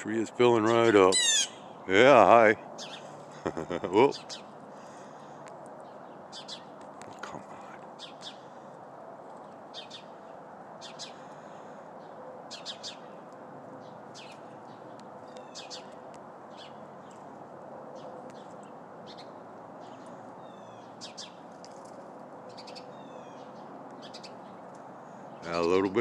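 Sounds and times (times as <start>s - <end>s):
sparrows chirping: 0.0s - 8.7s, 9.4s - 26.0s
steady background noise: 0.0s - 26.0s.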